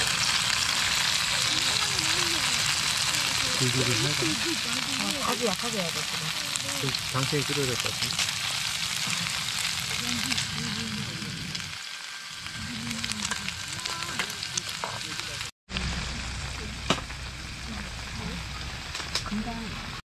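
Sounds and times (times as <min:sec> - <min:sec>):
tofu sizzling in hot oil: 0:00.0 - 0:19.2
oil popping and crackling: 0:00.0 - 0:20.0.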